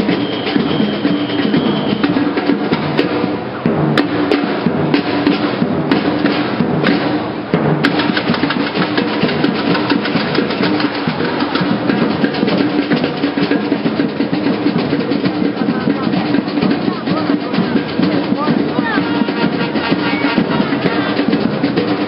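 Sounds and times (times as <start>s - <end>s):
bass and snare drums playing: 0.0s - 22.0s.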